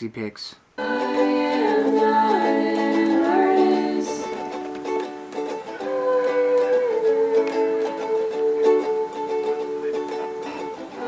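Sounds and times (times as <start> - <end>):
plucked string instrument music: 0.8 - 11.0.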